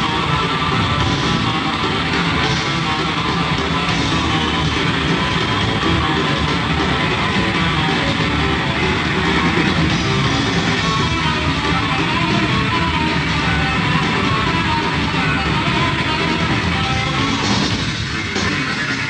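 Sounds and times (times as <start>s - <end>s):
bass guitar: 0.0s - 19.0s
drums: 0.0s - 19.0s
electric guitar: 0.0s - 19.0s.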